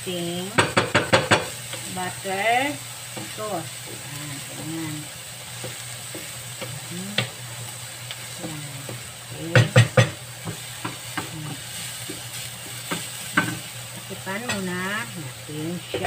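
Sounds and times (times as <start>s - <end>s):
onion sizzling in frying pan: 0.0s - 16.0s.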